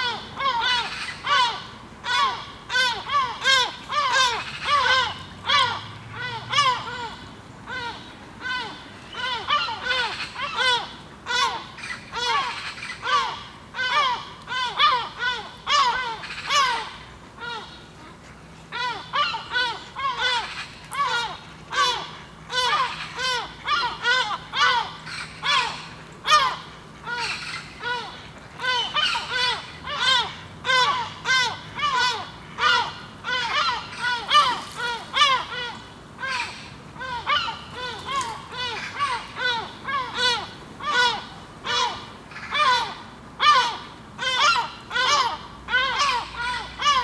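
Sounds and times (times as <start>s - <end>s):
birds giving alarm calls: 0.0s - 17.8s, 18.7s - 47.0s.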